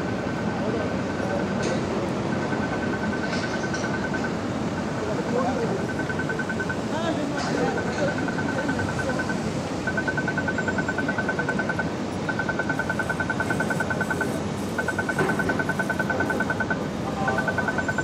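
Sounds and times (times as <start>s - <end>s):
city traffic noise: 0.0s - 18.0s
rapid electronic ticking: 0.0s - 18.0s.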